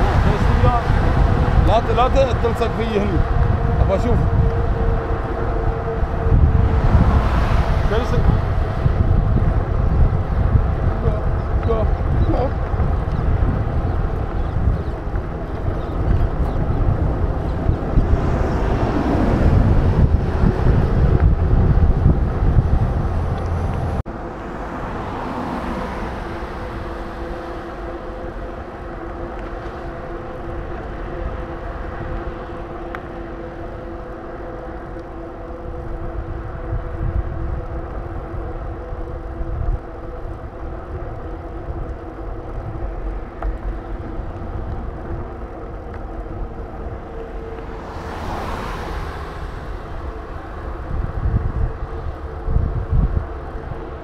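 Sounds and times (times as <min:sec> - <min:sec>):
road noise: 0:00.0 - 0:54.0
steady engine tones: 0:00.0 - 0:54.0
traffic hum: 0:00.0 - 0:54.0
wind buffeting microphone: 0:00.0 - 0:54.0.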